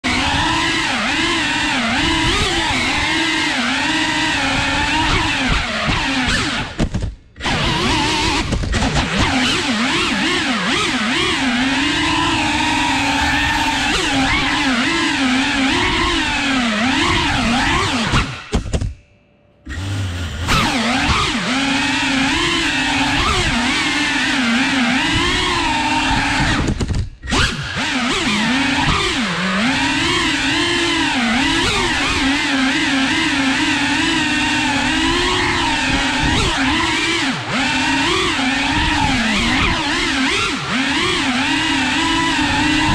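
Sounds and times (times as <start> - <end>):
drone motors whining: 0.0 - 18.6, 19.6 - 42.9.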